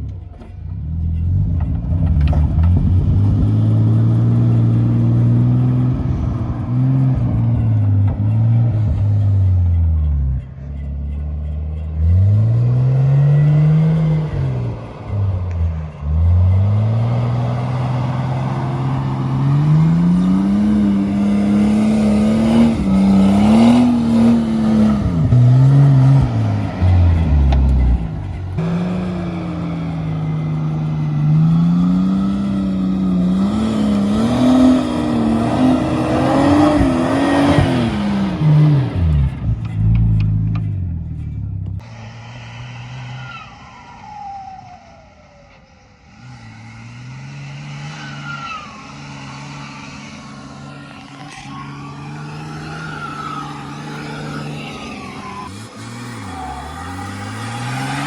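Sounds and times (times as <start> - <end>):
engine revving under hard throttle: 0.8 - 58.0.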